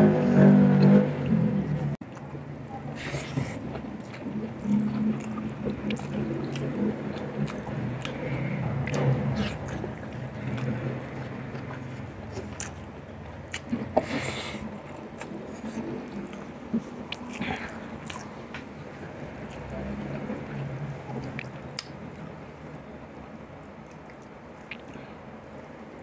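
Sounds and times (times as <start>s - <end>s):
man chewing and mouth sounds: 0.0s - 23.0s, 23.6s - 26.0s.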